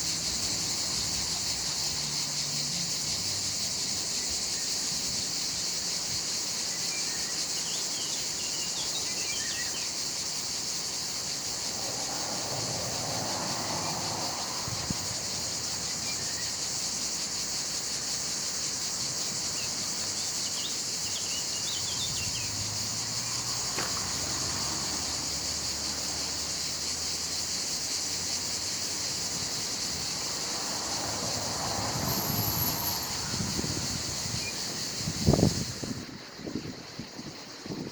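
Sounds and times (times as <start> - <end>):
insects chorus shrilling: 0.0 - 37.9.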